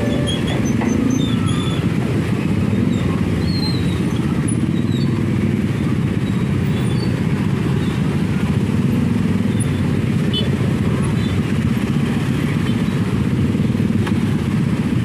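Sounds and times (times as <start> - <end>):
many motorcycle engines running: 0.0 - 15.0.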